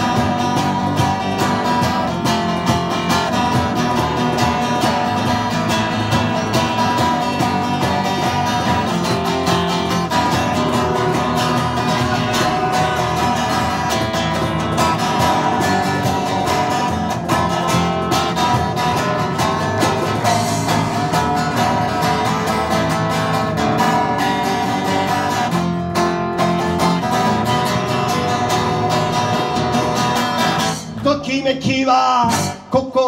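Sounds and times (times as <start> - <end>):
electric bass: 0.0 - 33.0
strummed acoustic guitar: 0.0 - 33.0.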